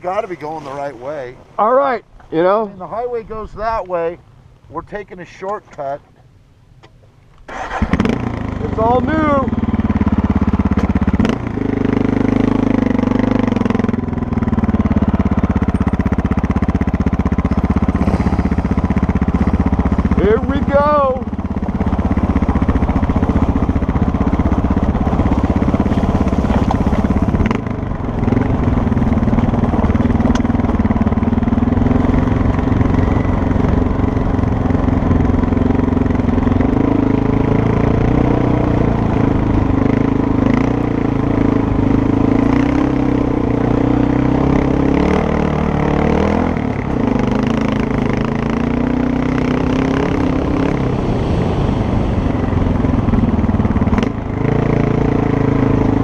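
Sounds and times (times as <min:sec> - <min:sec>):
motorcycle engine revving: 0:07.5 - 0:56.0.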